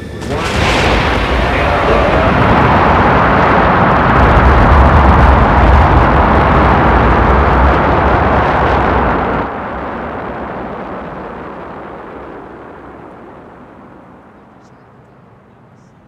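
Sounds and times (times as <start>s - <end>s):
rocket engines roaring: 0.0s - 16.0s.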